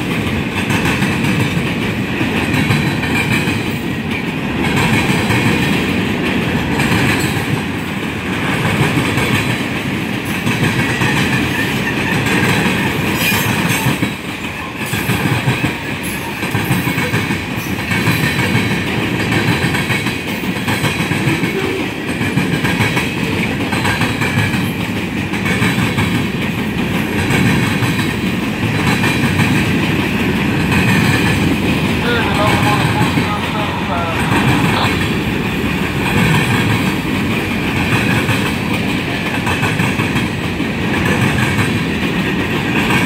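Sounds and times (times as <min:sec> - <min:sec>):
train wheels clattering over crossing: 0:00.0 - 0:43.0.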